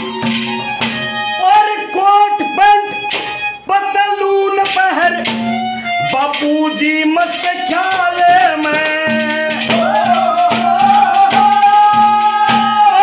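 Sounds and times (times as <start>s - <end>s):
harmonium melody: 0.0s - 13.0s
rhythmic percussion beat: 0.0s - 13.0s.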